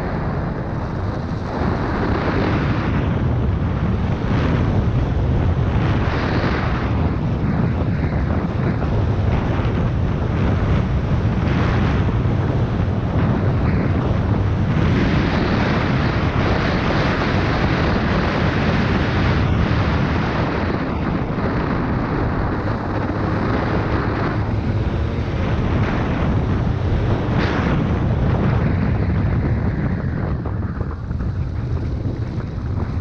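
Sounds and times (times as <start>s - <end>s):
dirt bike engine running: 0.0s - 33.0s
wind noise on microphone: 0.0s - 33.0s.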